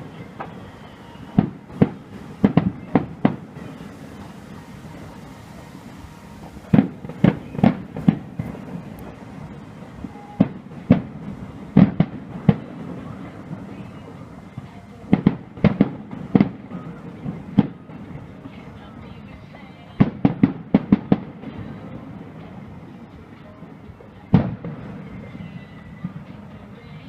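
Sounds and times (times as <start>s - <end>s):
fireworks exploding: 0.0s - 27.0s
steady background hiss: 0.0s - 27.0s.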